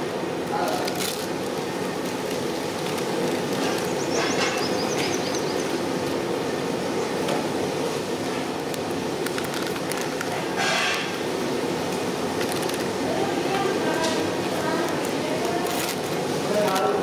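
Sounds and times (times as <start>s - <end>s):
outdoor background hum: 0.0s - 17.0s.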